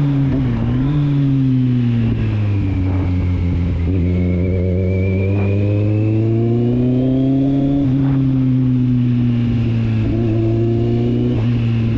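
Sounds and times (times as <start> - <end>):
motorcycle engine and exhaust: 0.0 - 11.9.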